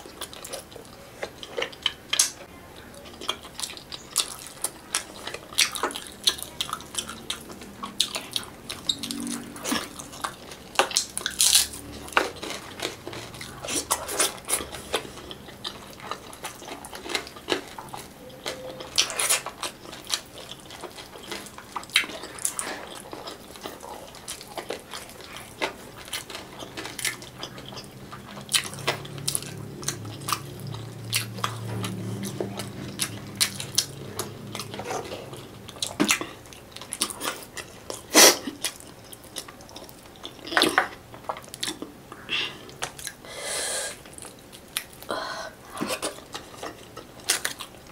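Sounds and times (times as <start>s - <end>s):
wet chewing and lip smacking: 0.0s - 43.2s.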